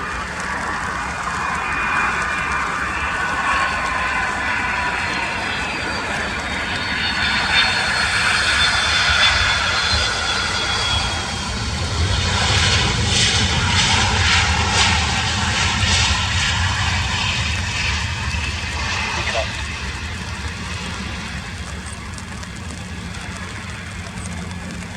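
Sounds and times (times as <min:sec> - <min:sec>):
jet engines whining: 0:00.0 - 0:24.9.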